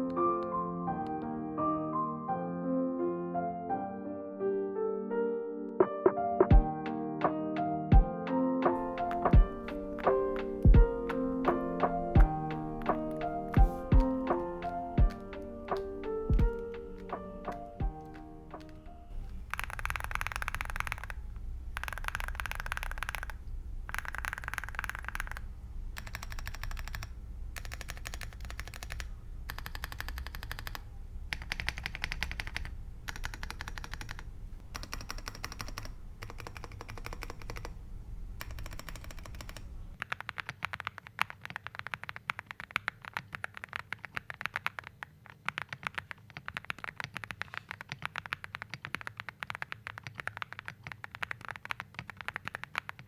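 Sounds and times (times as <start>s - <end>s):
mechanical keyboard typing: 8.7s - 37.8s, 38.4s - 53.0s.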